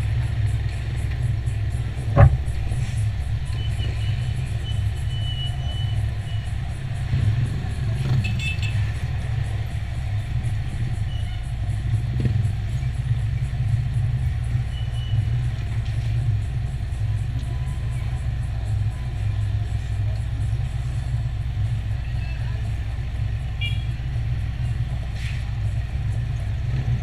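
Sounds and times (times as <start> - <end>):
car engine idling: 0.0 - 27.0
light street traffic passing: 0.0 - 27.0.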